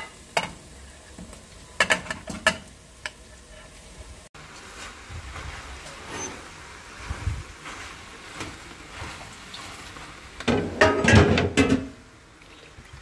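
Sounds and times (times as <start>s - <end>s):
food sizzling and stirring in pot: 0.0s - 13.0s.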